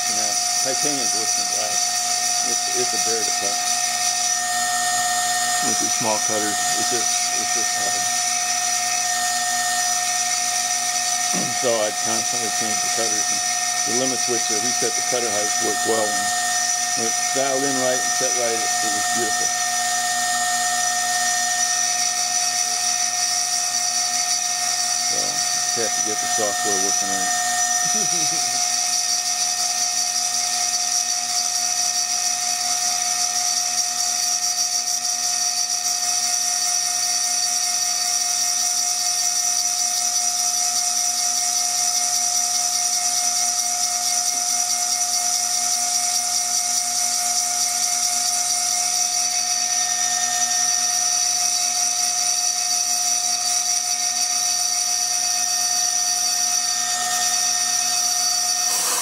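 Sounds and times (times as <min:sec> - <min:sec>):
milling spindle whining: 0:00.0 - 0:36.4, 0:41.6 - 0:59.0
cutter grinding glass: 0:00.0 - 0:59.0.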